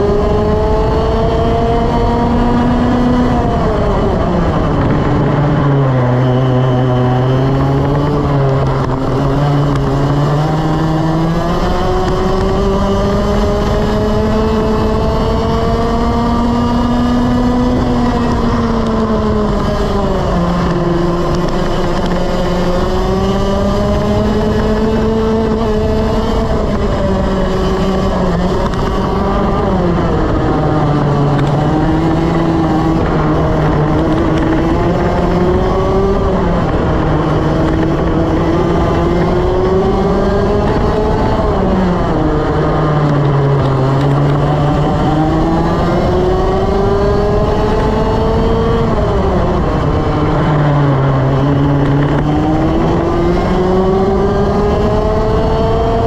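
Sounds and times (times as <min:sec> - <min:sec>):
kart engine at racing speed: 0:00.0 - 0:56.0.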